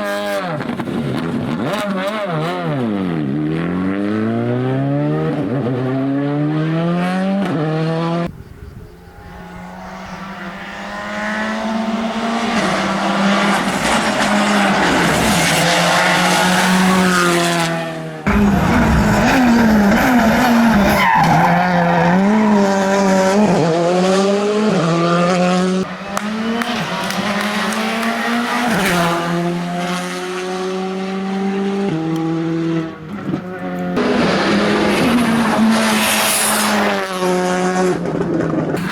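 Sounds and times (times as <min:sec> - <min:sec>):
rally car engine revving: 0:00.0 - 0:08.3, 0:09.0 - 0:38.9.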